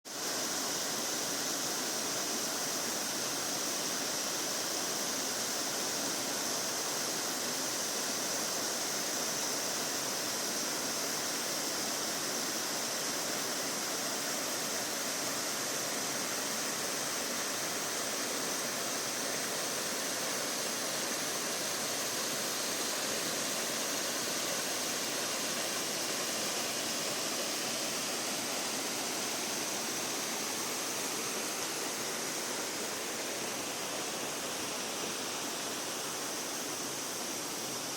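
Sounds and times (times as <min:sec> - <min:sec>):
waterfall rushing: 0:00.1 - 0:37.9.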